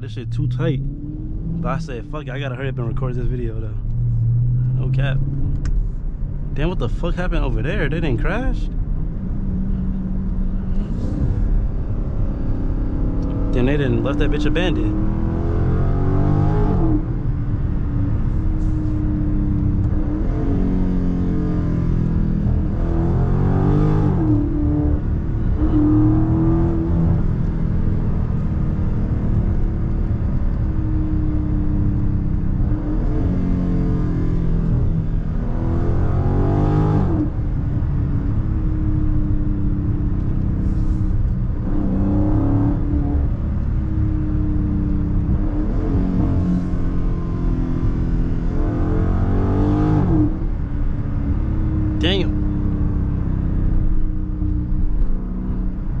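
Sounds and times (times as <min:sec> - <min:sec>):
car engine droning while driving: 0:00.0 - 0:56.0.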